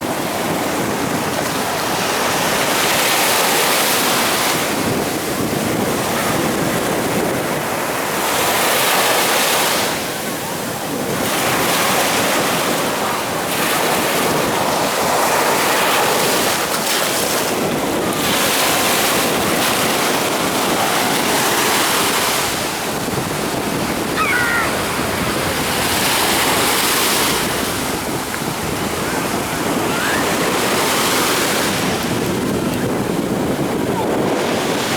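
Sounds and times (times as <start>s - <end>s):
storm waves breaking on shore: 0.0s - 34.9s
wind buffeting microphone: 0.0s - 34.9s.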